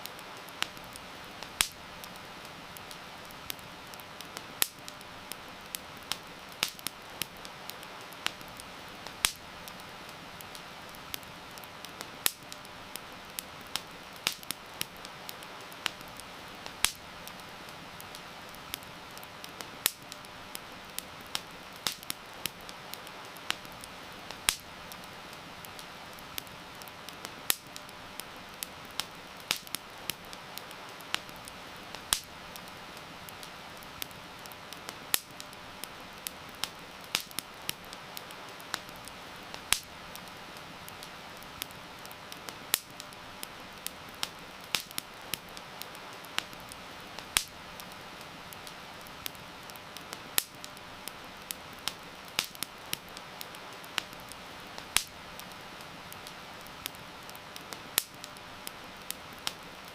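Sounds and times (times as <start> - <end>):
campfire crackling and popping: 0.0 - 59.9
heavy rain hiss: 0.0 - 59.9.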